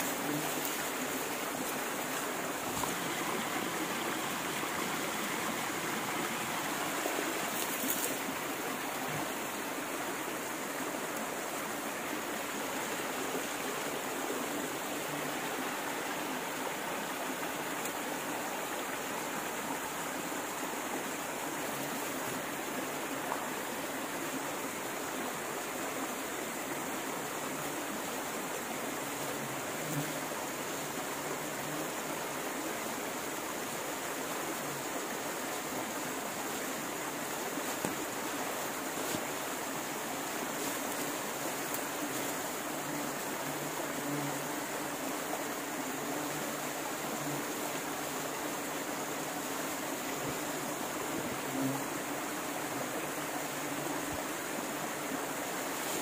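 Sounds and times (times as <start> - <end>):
faint high-pitched hiss: 0.0 - 56.0.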